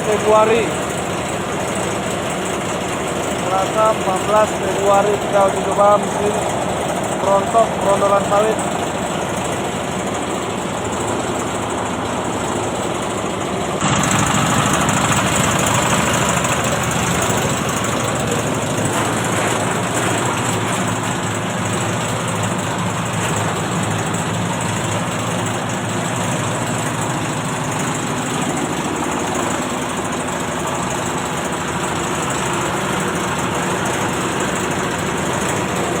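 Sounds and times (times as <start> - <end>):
threshing machine droning: 0.0 - 36.0.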